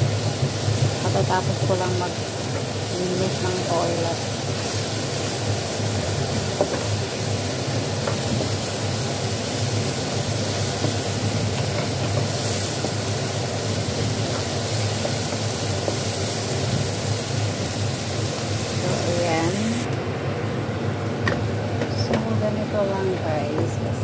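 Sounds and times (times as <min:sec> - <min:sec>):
food sizzling in hot oil: 0:00.0 - 0:19.9.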